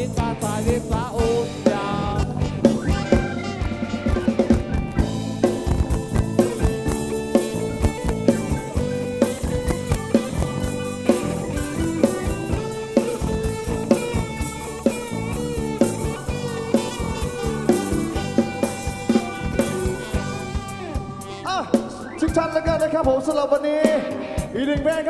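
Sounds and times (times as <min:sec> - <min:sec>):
electric guitar lines: 0:00.0 - 0:24.7
bass guitar: 0:00.0 - 0:25.0
drum kit steady beat: 0:00.0 - 0:25.0.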